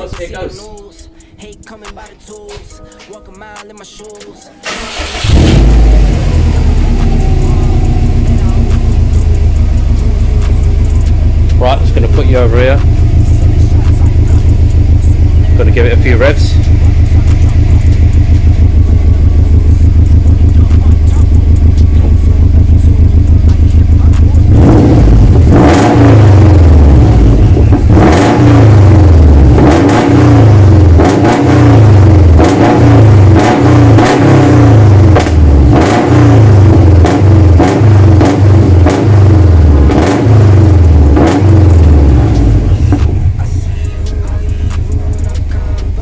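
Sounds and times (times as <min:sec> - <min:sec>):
car engine idling and revving: 0:00.0 - 0:02.5, 0:04.6 - 0:46.0.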